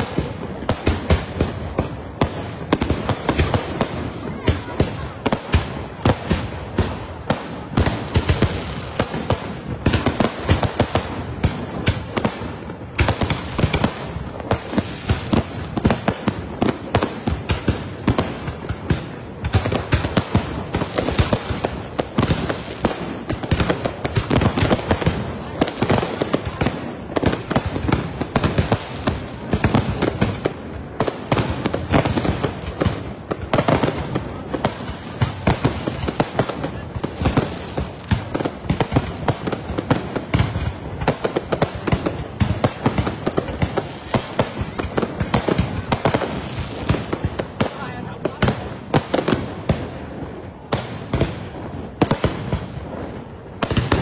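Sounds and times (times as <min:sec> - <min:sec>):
fireworks bursts and crackle: 0:00.0 - 0:54.0.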